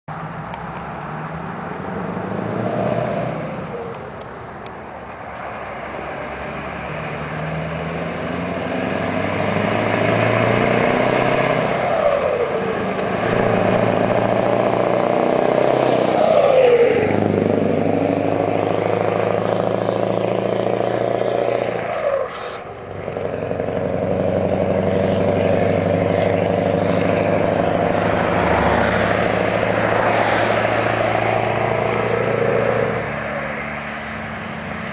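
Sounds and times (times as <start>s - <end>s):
diesel truck engine passing: 0.1s - 34.9s.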